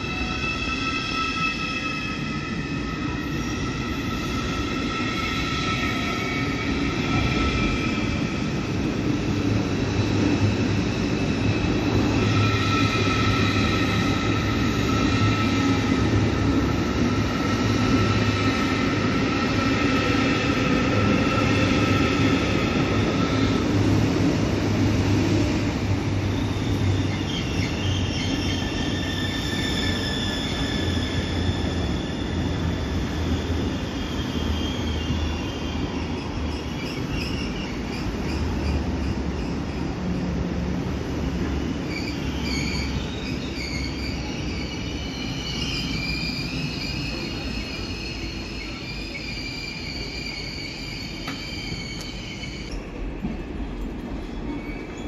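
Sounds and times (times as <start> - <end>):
high steady squealing tones: 0.0 - 38.8, 41.4 - 52.8
train rumble and hum: 0.0 - 55.0.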